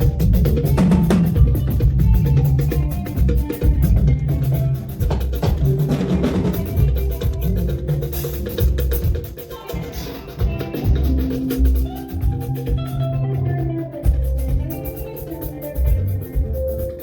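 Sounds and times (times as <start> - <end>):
bass line: 0.0 - 17.0
drum kit beat: 0.0 - 17.0.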